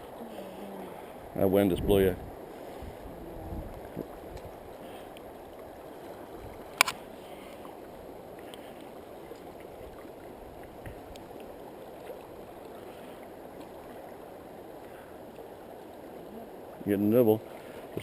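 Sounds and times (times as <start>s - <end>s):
water rushing: 0.0s - 18.0s
wind: 0.0s - 18.0s.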